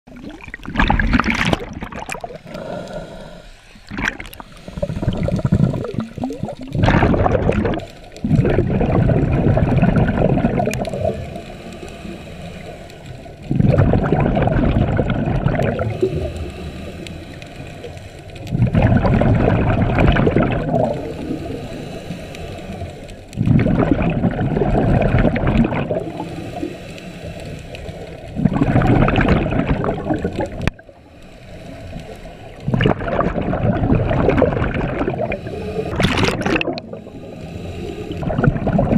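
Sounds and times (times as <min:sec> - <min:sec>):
underwater regulator bubbling: 0:00.1 - 0:38.9.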